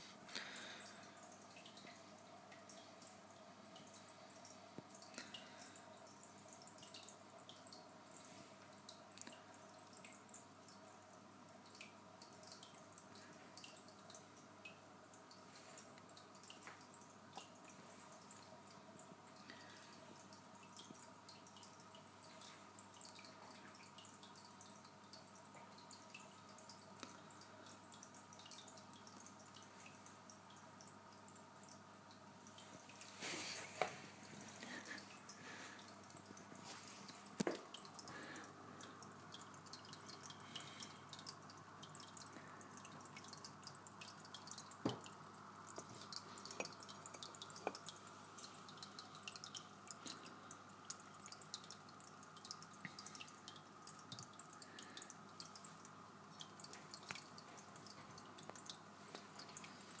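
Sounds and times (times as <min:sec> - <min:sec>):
water dripping and trickling: 0:00.0 - 1:00.0.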